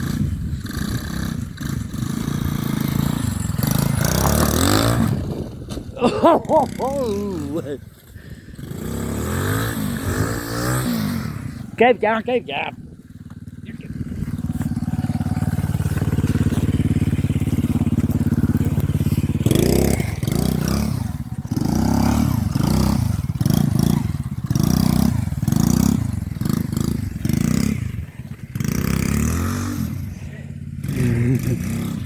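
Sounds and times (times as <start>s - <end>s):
quad bike engine revving: 0.0s - 32.0s.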